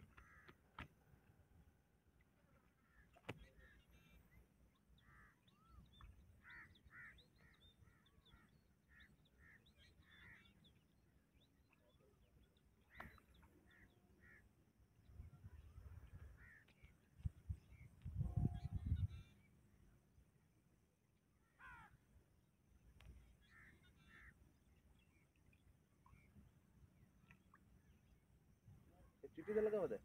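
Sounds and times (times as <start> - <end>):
low rumble of wind or water: 0.0 - 30.0.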